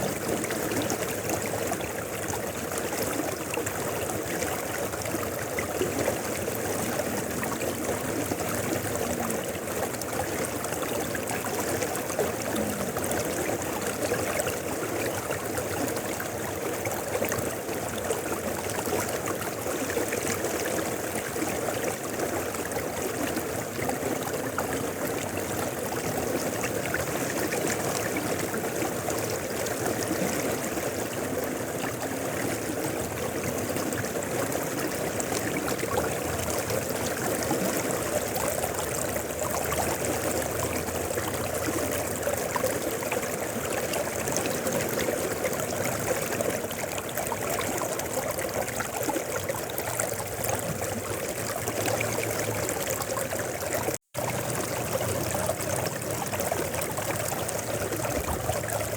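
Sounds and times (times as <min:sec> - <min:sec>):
river flowing: 0:00.0 - 0:58.9.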